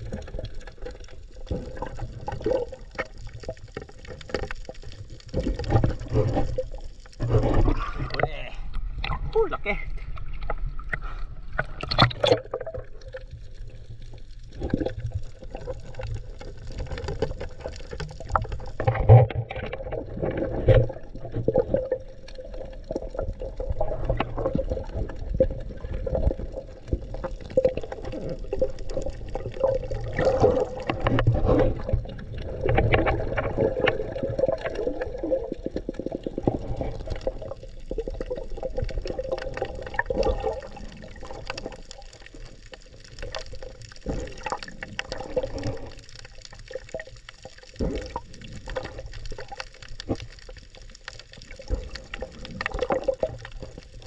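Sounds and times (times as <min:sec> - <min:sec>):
water swirling and gurgling: 0:00.0 - 0:54.0.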